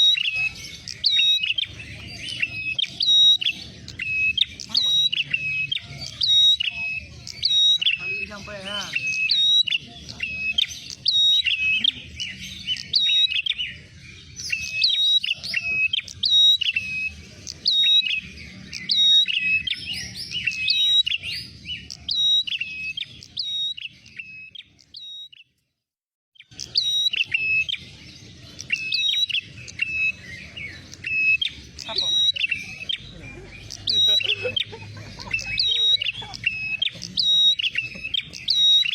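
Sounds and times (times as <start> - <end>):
bird chirping calls: 0.0 - 25.8, 26.4 - 38.9.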